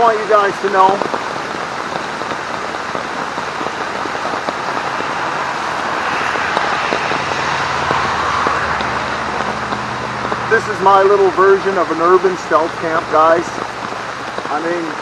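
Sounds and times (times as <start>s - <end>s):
heavy rain on tarp: 0.0s - 15.0s
road traffic: 0.0s - 15.0s.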